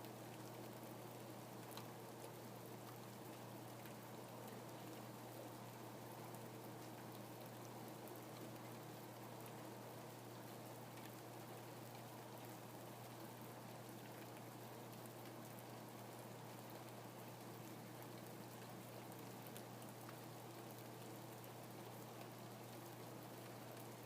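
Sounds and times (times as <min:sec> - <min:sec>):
light rain falling: 0:00.0 - 0:24.0.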